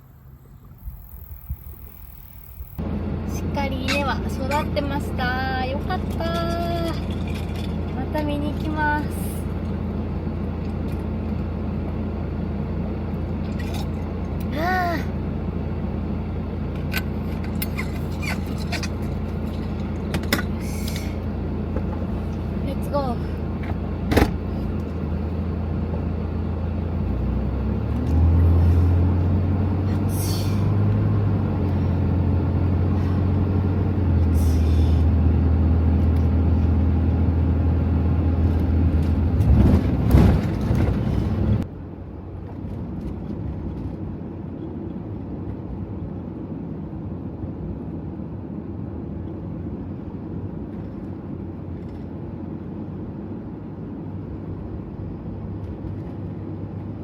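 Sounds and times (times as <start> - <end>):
dull steady hum: 0.0 - 57.0
van engine driving off: 0.0 - 57.0.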